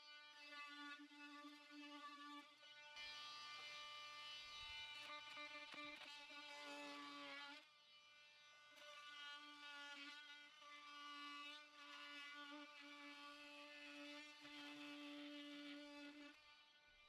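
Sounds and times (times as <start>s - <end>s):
power saw cutting wood: 0.0s - 7.7s, 8.7s - 16.7s.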